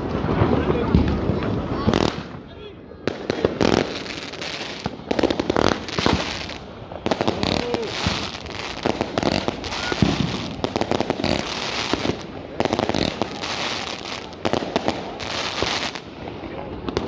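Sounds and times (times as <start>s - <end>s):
firecrackers crackling: 0.0s - 17.0s
rockets bursting: 0.0s - 17.0s.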